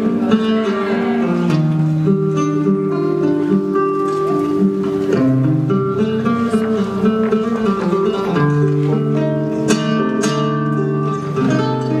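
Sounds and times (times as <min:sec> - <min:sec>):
flamenco guitar strumming chords: 0:00.0 - 0:12.0.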